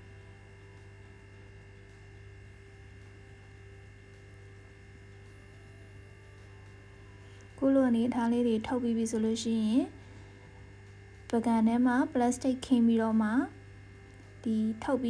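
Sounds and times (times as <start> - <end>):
constant high tones: 0.0 - 15.0
faint electrical hum: 0.0 - 15.0.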